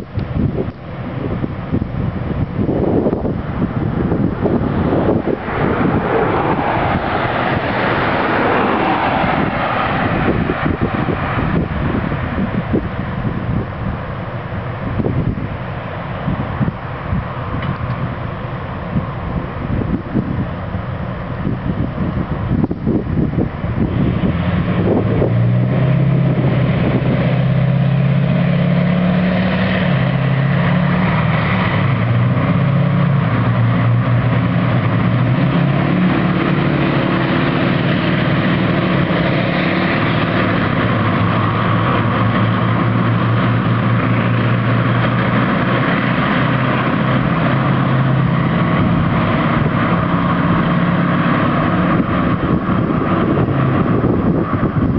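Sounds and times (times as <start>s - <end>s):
tracks rumbling on tarmac: 0.0s - 54.9s
vehicle engines droning: 0.0s - 54.9s.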